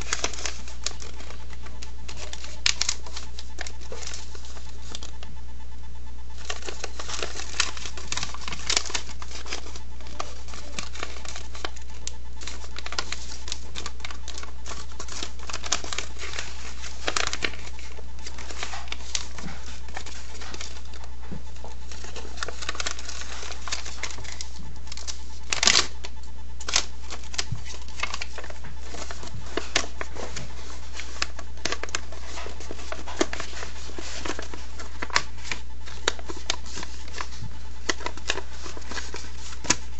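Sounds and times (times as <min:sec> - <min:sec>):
paper being folded and creased: 0:00.0 - 0:05.3, 0:06.3 - 0:39.9
steady low hum: 0:00.0 - 0:39.9.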